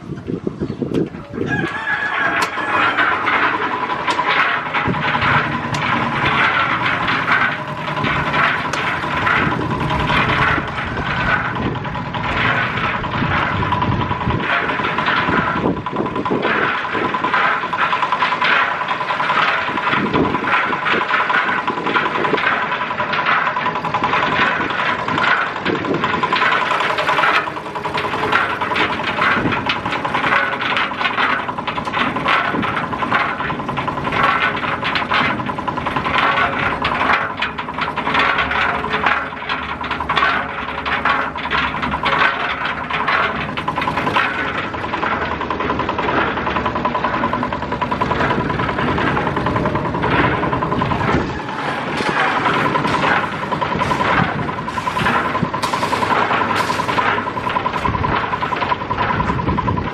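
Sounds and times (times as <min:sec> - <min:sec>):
small engine chattering: 0:00.0 - 0:59.9
scraping and knocking: 0:00.9 - 0:59.9.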